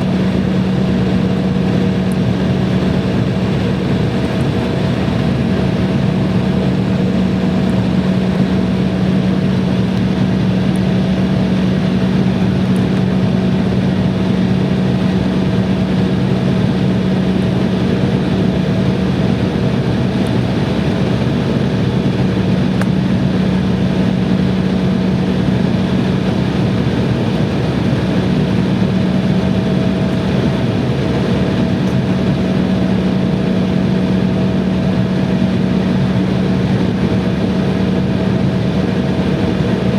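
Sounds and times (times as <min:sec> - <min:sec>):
airliner engines droning: 0:00.0 - 0:39.9.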